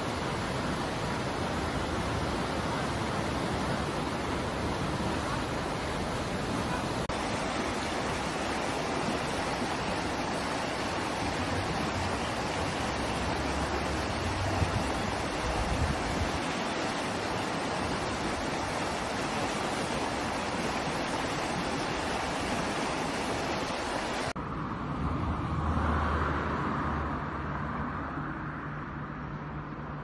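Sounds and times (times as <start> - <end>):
steady rushing noise: 0.0 - 25.8.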